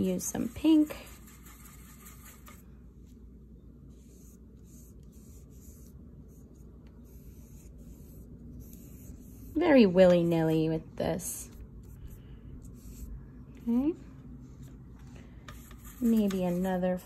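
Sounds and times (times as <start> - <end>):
paintbrush scratching and swishing: 0.0 - 2.7, 3.9 - 13.3, 14.0 - 17.0
low steady hum: 0.0 - 17.0.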